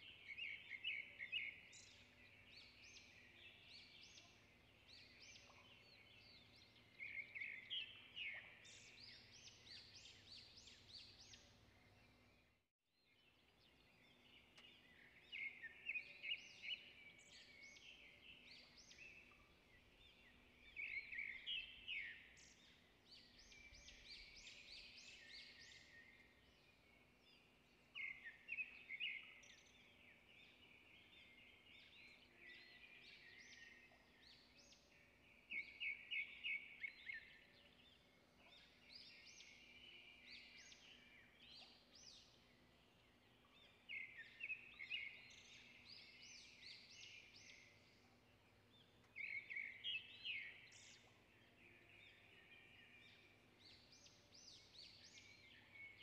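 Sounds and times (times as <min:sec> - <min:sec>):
faint bird chirping: 0:00.0 - 0:56.0.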